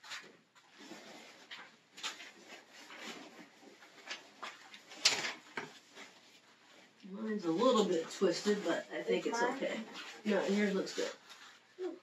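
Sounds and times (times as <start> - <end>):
nylon fabric rustling: 0.0 - 12.0.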